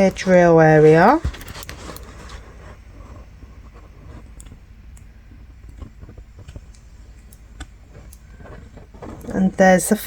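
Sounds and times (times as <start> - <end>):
light handling clicks and rustles: 0.0 - 10.0
low steady hum: 0.0 - 10.0.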